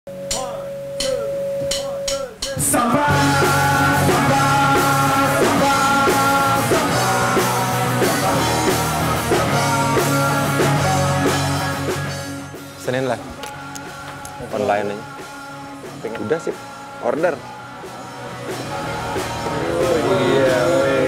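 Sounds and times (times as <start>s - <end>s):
rock band playing: 0.3s - 21.0s.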